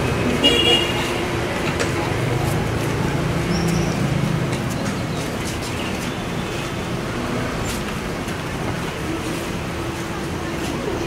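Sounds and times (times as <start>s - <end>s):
road noise: 0.0s - 11.0s
vehicle engines running: 0.0s - 11.0s.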